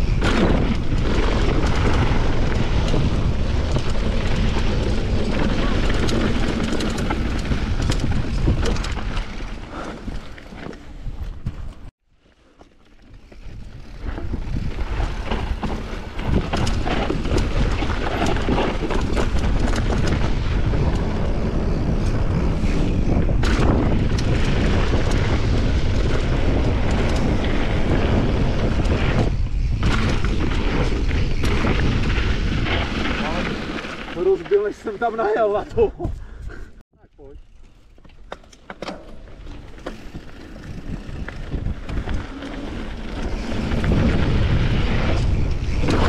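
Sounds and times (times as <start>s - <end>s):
bike knocking over rough ground: 0.0s - 11.9s, 12.6s - 21.2s, 23.0s - 35.0s, 38.0s - 46.0s
wind on microphone: 0.0s - 11.9s, 13.4s - 33.5s, 40.0s - 46.0s
bike tyres rolling on gravel: 0.0s - 35.9s, 37.2s - 46.0s.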